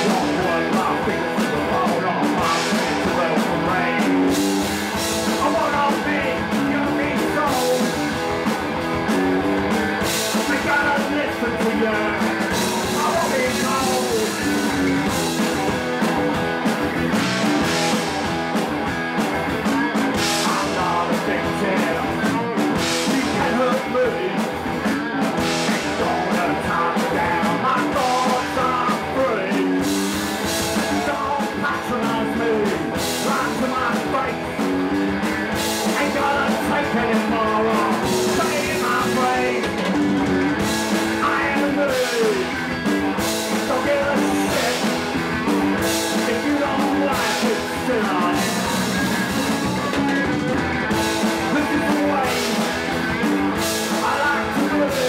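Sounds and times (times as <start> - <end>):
punk rock band playing live: 0.0 - 55.0.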